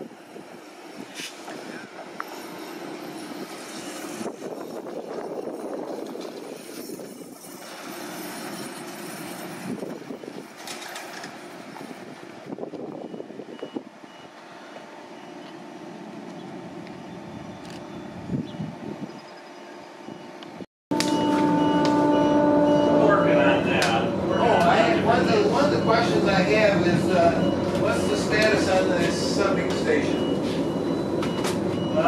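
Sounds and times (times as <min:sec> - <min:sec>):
tyre and road noise: 0:00.0 - 0:19.0, 0:23.2 - 0:32.0.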